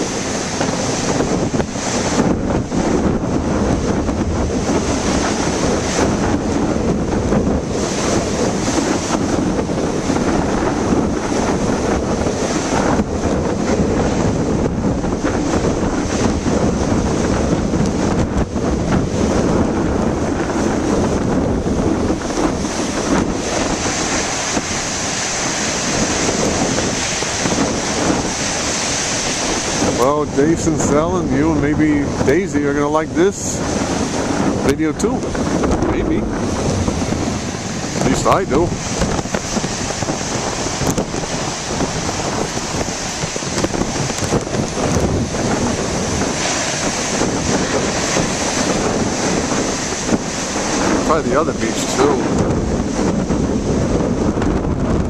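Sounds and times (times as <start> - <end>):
ocean surf crashing on rocks: 0.0 - 55.0
wind buffeting microphone: 0.0 - 55.0.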